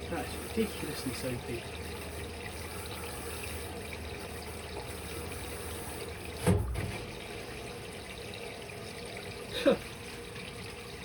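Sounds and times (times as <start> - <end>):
water running in washing machine: 0.0 - 11.0.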